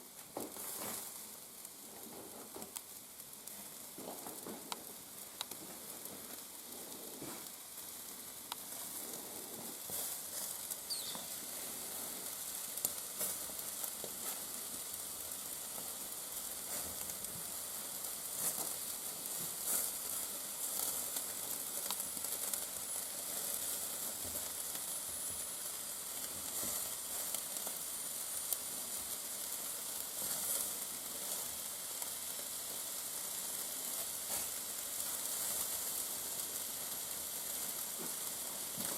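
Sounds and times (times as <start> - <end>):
fire crackling and popping: 0.0 - 38.9
meat sizzling over fire: 0.0 - 38.9.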